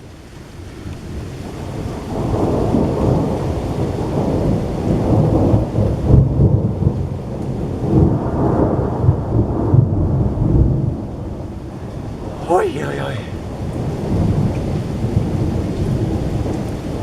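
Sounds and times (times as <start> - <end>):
steady rain: 0.0 - 9.4, 11.1 - 17.0.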